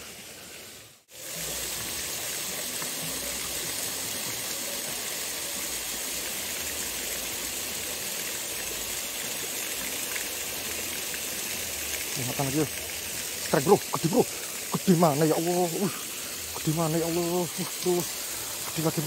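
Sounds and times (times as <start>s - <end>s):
stream water rushing: 0.0s - 19.0s
water pouring into pool: 0.0s - 19.0s.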